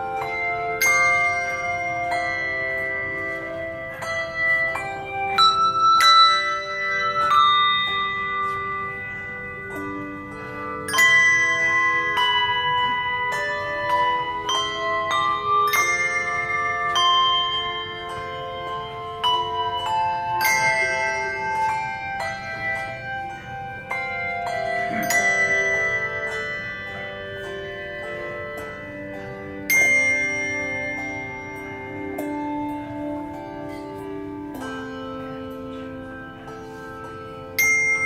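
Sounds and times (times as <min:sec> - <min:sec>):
handbells ringing chords: 0:00.0 - 0:38.0.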